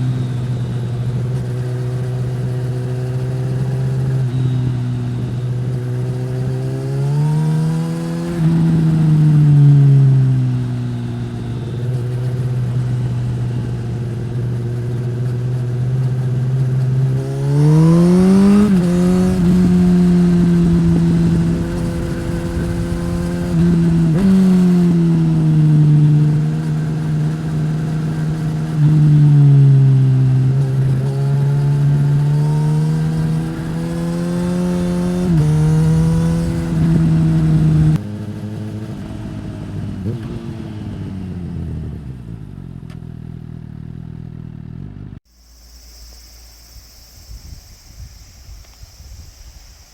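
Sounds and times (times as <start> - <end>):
motorcycle engine revving: 0.0 - 45.7.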